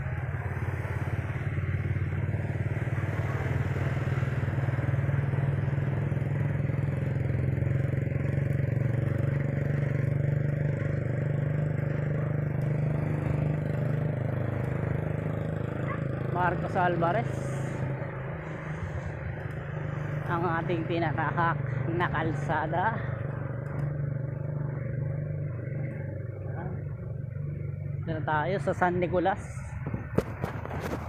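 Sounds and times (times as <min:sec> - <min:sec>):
motorcycle engine: 0:00.0 - 0:31.0
wind and road noise: 0:00.0 - 0:31.0.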